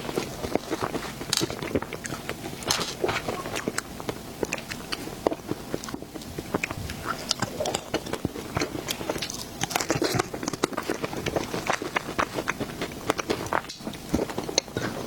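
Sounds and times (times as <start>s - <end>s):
person chewing soft food: 0.0s - 15.0s.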